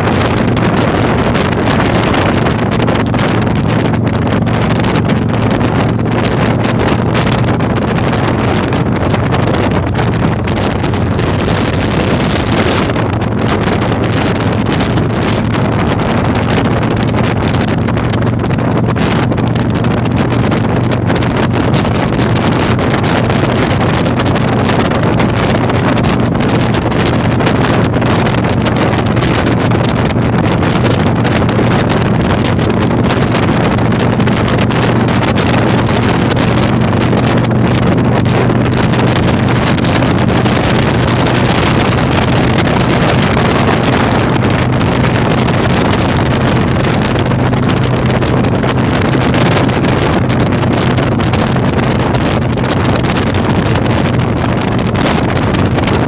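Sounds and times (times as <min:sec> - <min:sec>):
motorcycle engine droning: 0:00.0 - 0:56.0
wind buffeting microphone: 0:00.0 - 0:56.0.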